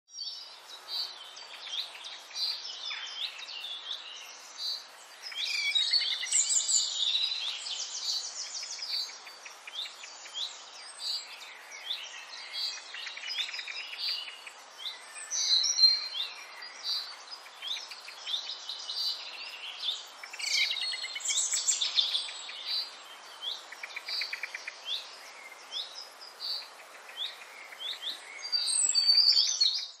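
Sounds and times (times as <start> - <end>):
faint outdoor background: 0.0 - 30.0
birds chirping and singing: 0.1 - 30.0.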